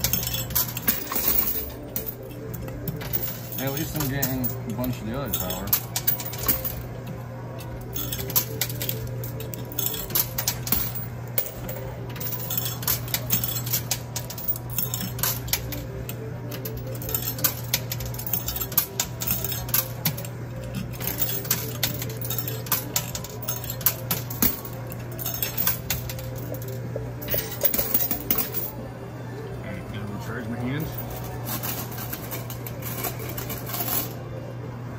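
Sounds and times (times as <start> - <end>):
coins clinking: 0.0 - 28.9, 30.6 - 34.4.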